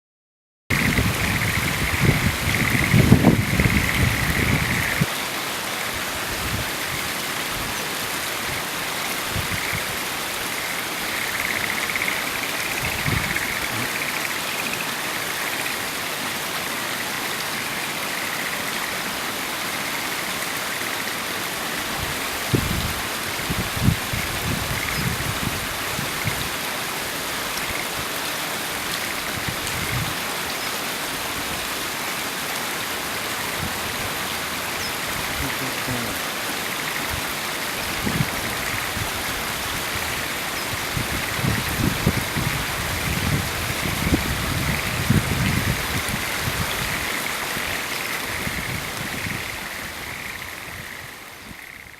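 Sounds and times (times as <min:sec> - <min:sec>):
river water flowing: 0:00.7 - 0:51.8.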